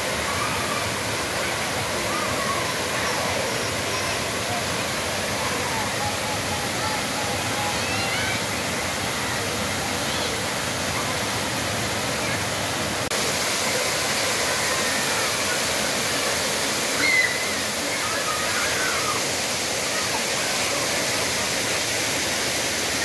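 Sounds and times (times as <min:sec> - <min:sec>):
faint children calling out: 0:00.0 - 0:12.5, 0:13.3 - 0:21.6
fountain water splashing into pool: 0:00.0 - 0:23.0.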